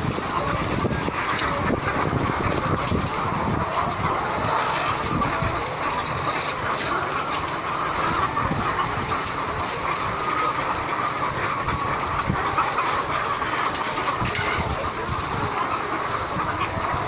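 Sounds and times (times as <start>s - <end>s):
many hens calling: 0.0s - 17.0s.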